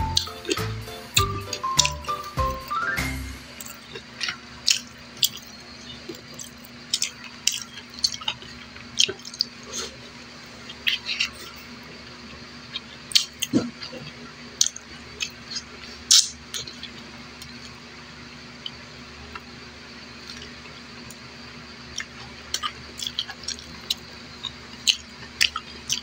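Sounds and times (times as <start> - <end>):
wet sticky eating sounds: 0.0 - 2.6, 3.6 - 17.8, 21.8 - 26.0.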